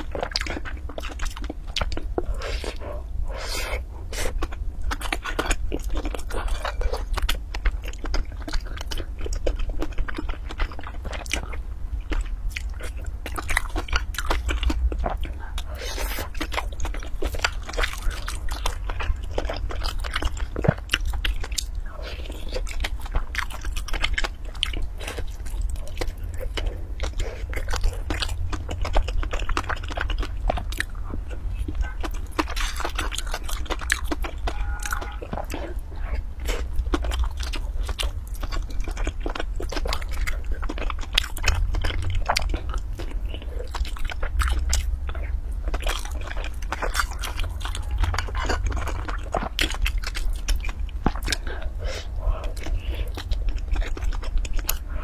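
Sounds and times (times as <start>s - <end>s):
person chewing wet mouth sounds: 0.0s - 55.0s
steady low hum: 0.0s - 55.0s.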